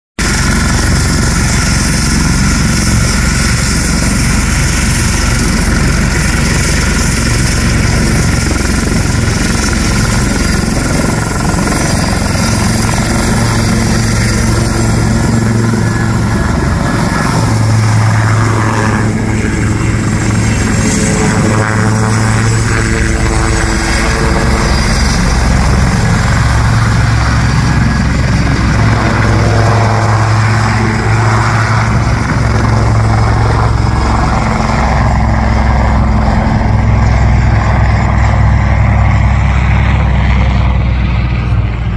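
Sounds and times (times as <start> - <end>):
helicopter turbines and rotor: 0.2 - 41.9.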